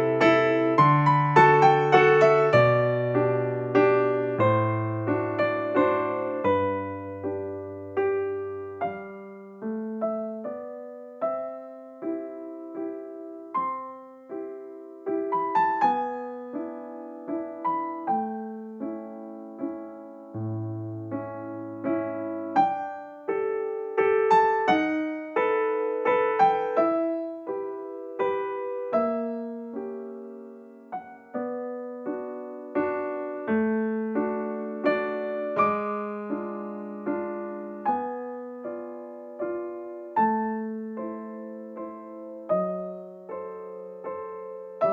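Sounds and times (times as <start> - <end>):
gentle solo piano tune: 0.0 - 44.9.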